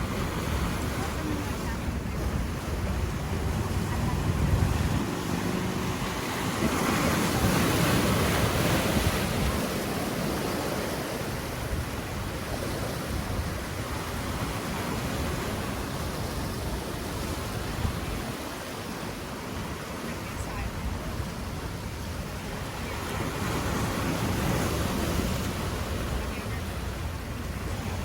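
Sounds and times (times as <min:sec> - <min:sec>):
ocean surf washing in: 0:00.0 - 0:28.0
wind buffeting microphone: 0:00.0 - 0:28.0.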